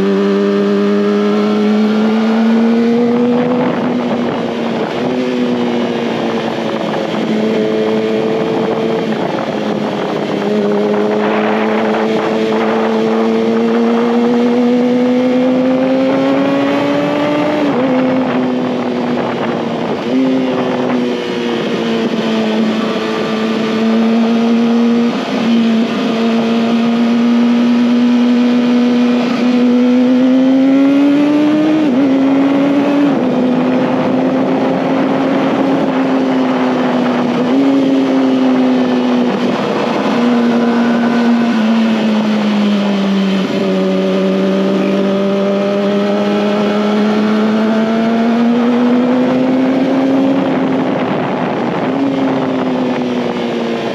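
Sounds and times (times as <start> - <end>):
motorcycle engine at high revs: 0.0 - 53.9
steady rushing noise: 0.6 - 53.9.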